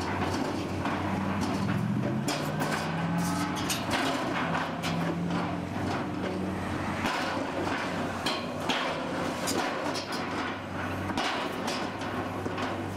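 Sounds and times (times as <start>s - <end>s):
excavator diesel engine: 0.0s - 12.9s.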